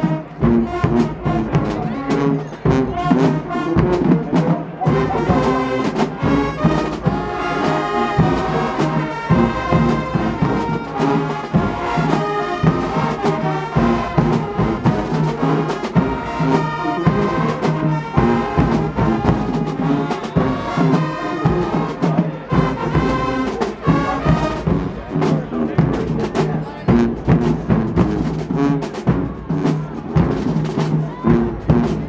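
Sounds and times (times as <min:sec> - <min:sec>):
marching band brass section: 0:00.0 - 0:32.0
steady drum beat: 0:00.0 - 0:32.0.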